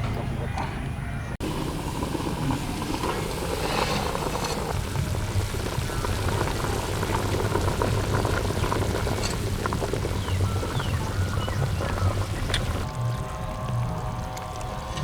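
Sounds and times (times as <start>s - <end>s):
soup bubbling in a pot: 1.4s - 15.0s.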